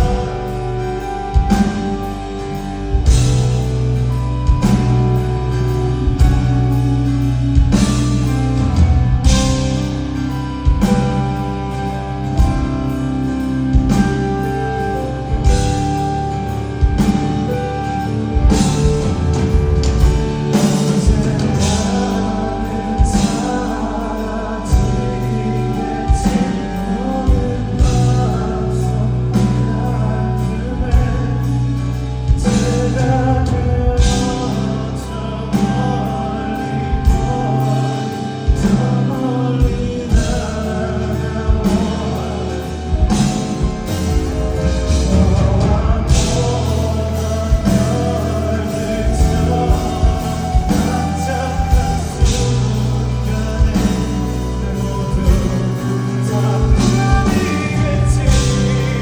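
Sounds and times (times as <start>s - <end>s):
bass: 0.0s - 59.0s
guitar: 0.0s - 59.0s
man singing: 0.0s - 59.0s.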